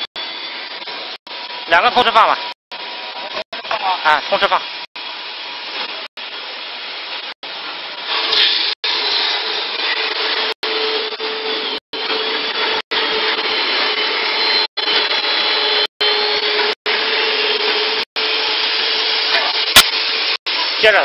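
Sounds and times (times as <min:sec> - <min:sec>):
sanding machine whirring: 0:00.0 - 0:20.8.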